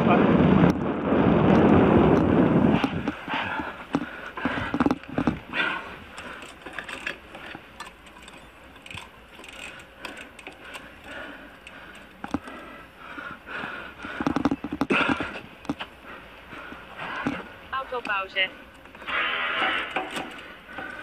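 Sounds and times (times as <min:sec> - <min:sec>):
bike drivetrain clicking and rattling: 0:00.0 - 0:21.0.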